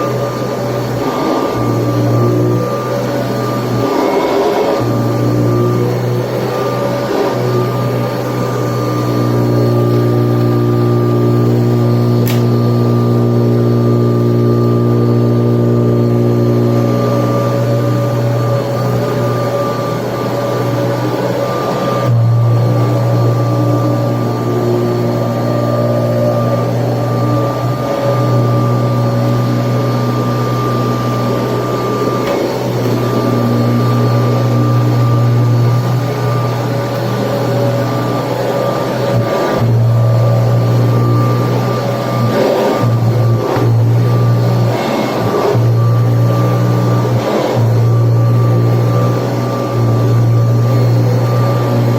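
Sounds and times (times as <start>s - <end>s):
vacuum cleaner motor humming: 0.0s - 51.9s.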